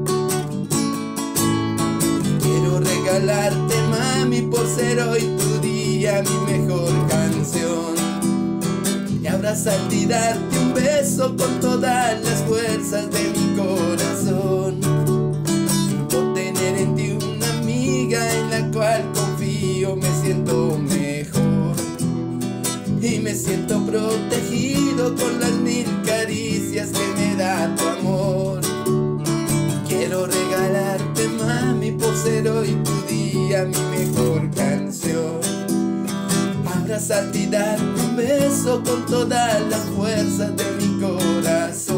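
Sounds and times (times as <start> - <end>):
acoustic guitar strummed: 0.0 - 41.9.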